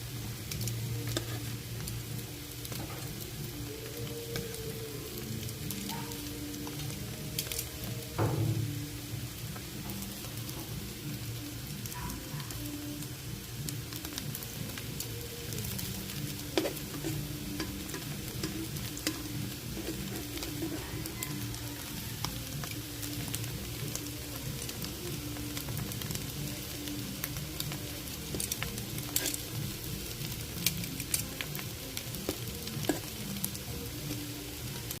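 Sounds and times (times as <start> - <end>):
food sizzling in oiled pan: 0.0 - 35.0.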